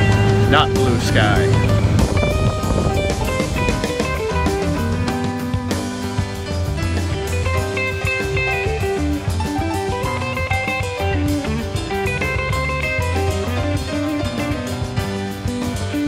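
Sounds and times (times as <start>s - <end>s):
song with guitar and drums: 0.0s - 16.0s.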